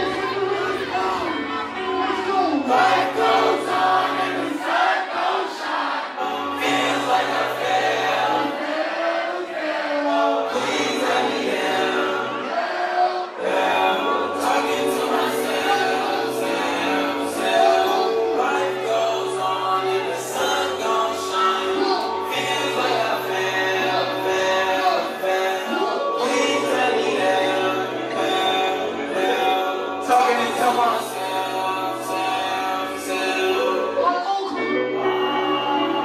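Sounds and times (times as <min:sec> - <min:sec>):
sung vocal: 0:00.0 - 0:36.0.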